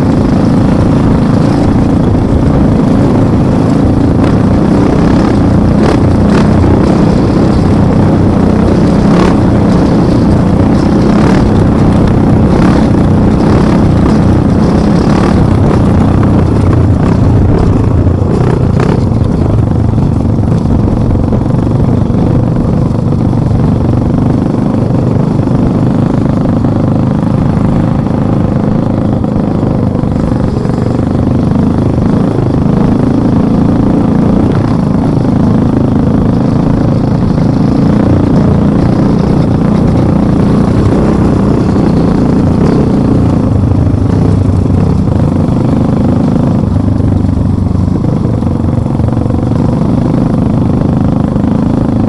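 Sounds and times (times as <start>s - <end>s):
vehicle engine running loudly: 0.0s - 52.0s.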